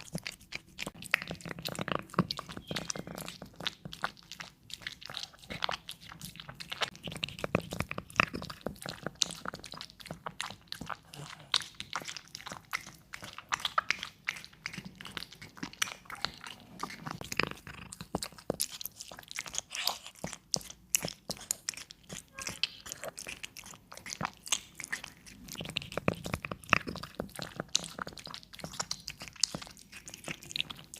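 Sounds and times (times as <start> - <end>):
cat chewing crunchy food: 0.0 - 30.9.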